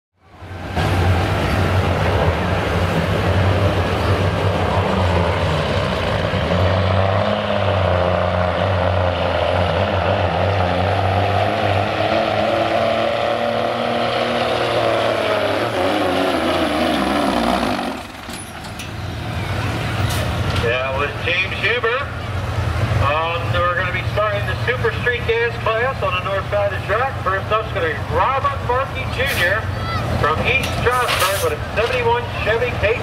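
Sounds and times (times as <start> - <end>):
diesel truck engine under load: 0.2 - 33.0.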